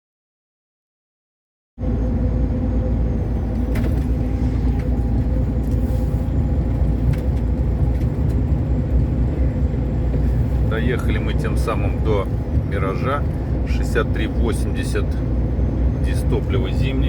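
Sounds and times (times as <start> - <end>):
road noise: 1.8 - 17.0
truck engine drone: 1.8 - 17.0.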